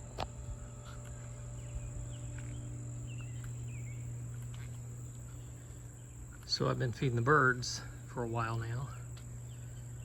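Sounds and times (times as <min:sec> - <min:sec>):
high-pitched insect drone: 0:00.0 - 0:10.0
low hum: 0:00.0 - 0:10.0.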